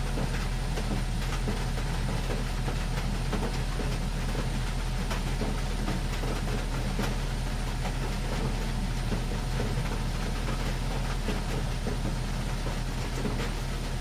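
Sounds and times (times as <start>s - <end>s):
rain on car roof and glass: 0.0s - 14.0s.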